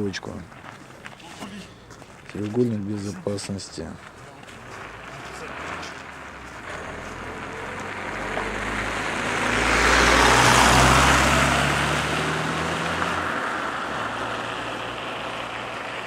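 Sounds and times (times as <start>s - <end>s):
tyre noise: 0.0s - 13.2s
vehicle engine hum: 0.0s - 16.0s.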